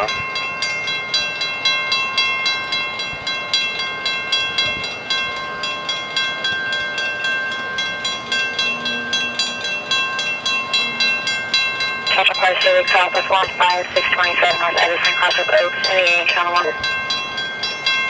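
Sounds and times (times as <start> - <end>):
railroad crossing bell ringing: 0.0 - 18.0.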